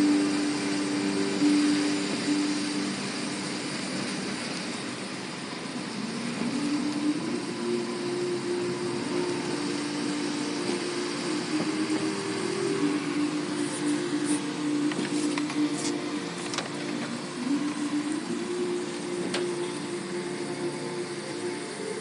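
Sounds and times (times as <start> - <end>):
car engine droning: 0.0 - 22.0
road noise: 0.0 - 22.0.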